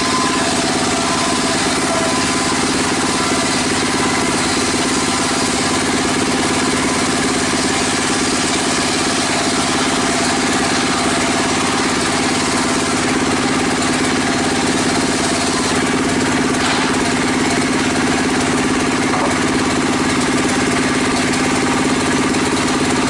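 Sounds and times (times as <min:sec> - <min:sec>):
circular saw running: 0:00.0 - 0:23.0
saw ripping wooden plank: 0:00.0 - 0:23.0.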